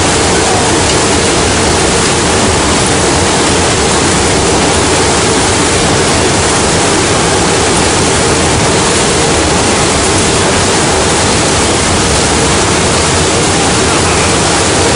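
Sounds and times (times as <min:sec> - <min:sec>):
wind and aircraft engine roar: 0:00.0 - 0:14.9.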